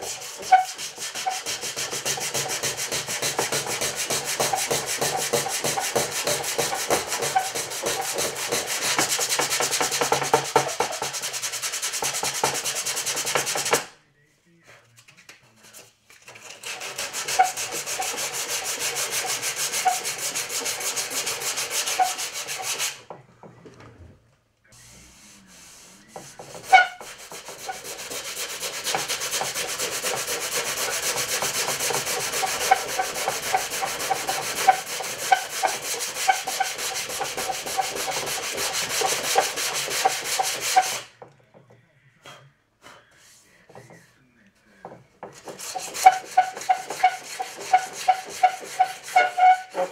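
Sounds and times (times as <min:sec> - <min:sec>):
sandpaper scraping by hand: 0:00.0 - 0:13.9, 0:15.6 - 0:23.1, 0:24.8 - 0:41.1, 0:45.3 - 0:49.9.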